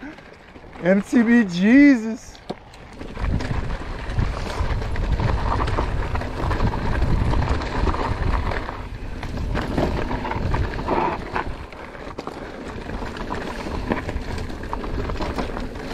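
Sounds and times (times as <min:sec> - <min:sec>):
bike tyres crunching on rocky dirt: 0:00.0 - 0:15.9
wind rumbling on microphone: 0:01.7 - 0:15.9.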